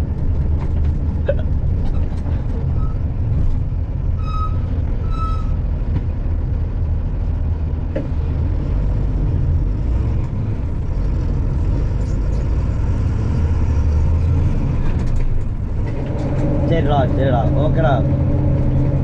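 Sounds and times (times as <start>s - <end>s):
truck diesel engine rumbling: 0.0s - 19.0s.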